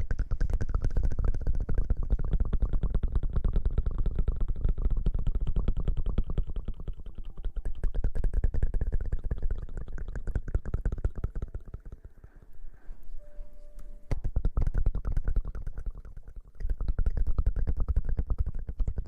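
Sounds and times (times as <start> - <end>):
fingers scratching on microphone: 0.0 - 19.0.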